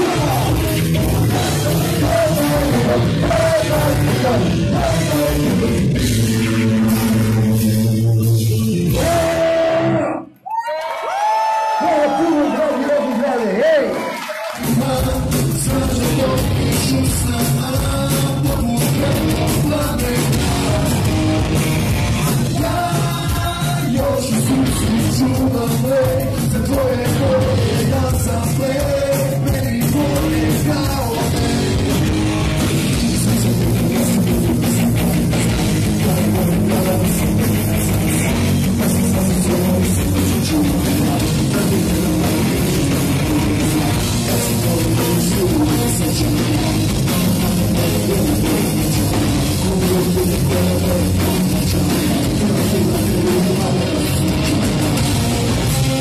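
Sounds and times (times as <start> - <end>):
drum kit: 0.0 - 10.1, 14.5 - 56.0
person singing into microphone: 0.0 - 10.2, 14.6 - 21.2, 22.2 - 31.8, 35.7 - 56.0
electric guitar: 0.0 - 10.4, 14.0 - 56.0.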